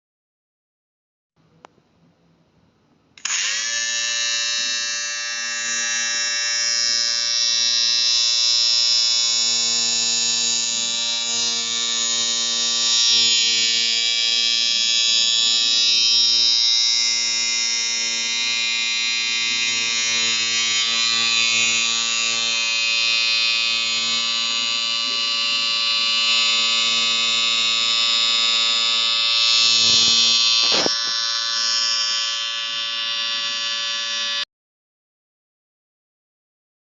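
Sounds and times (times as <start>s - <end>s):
electric clipper buzzing: 3.2s - 34.5s.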